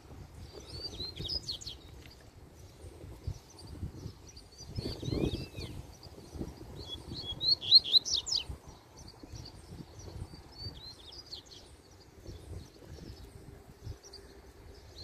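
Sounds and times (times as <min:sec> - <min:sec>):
bird singing high chirps: 0:00.4 - 0:15.0.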